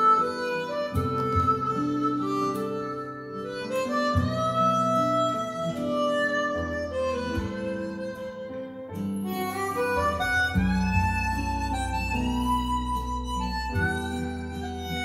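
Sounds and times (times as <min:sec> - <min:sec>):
ballad with guitar and strings: 0:00.0 - 0:15.0.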